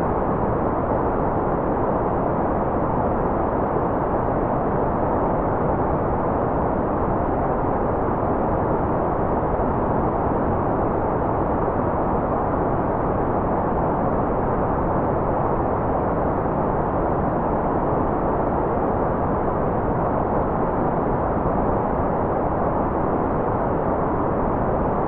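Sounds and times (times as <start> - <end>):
white noise hiss: 0.0 - 25.0.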